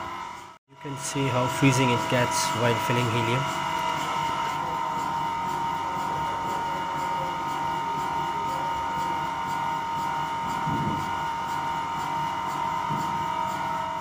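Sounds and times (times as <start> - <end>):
constant high whine: 0.0 - 14.0
machine hum: 0.0 - 14.0.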